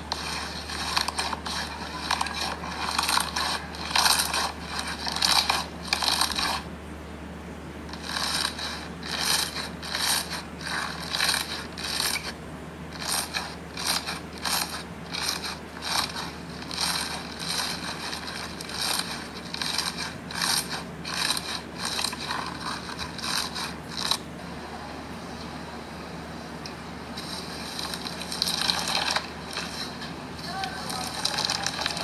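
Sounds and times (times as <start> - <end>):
slime squelching and crackling: 0.0 - 6.7, 7.9 - 24.3, 27.2 - 32.0.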